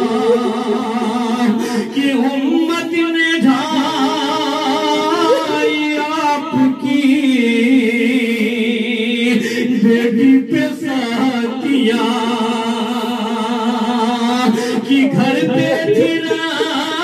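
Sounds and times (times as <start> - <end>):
man chanting a cappella: 0.0 - 17.0.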